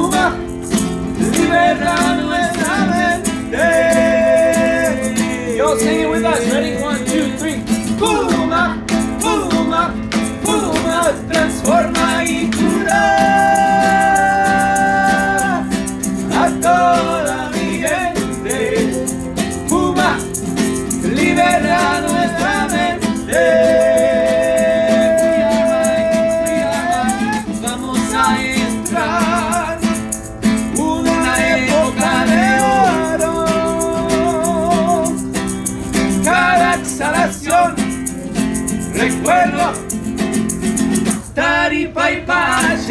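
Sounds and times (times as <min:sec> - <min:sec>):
men singing: 0:00.0 - 0:35.2, 0:36.0 - 0:40.2, 0:40.9 - 0:42.9
maraca shaking: 0:00.0 - 0:41.7, 0:42.3 - 0:42.9
strummed acoustic guitar: 0:00.0 - 0:42.9.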